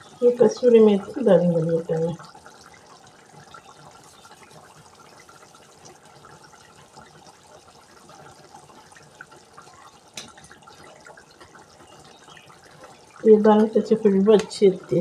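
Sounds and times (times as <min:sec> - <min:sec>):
sauce bubbling and popping: 0:00.0 - 0:15.0.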